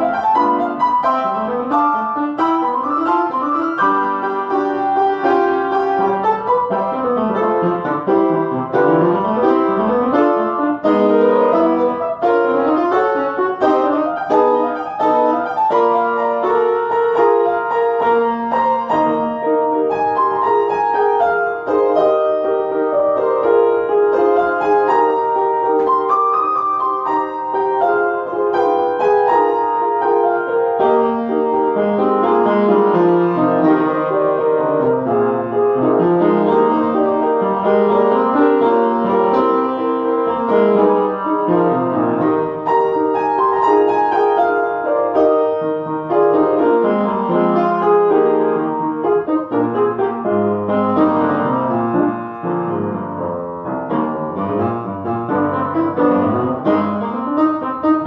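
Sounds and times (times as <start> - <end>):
solo classical piano: 0.0 - 58.0.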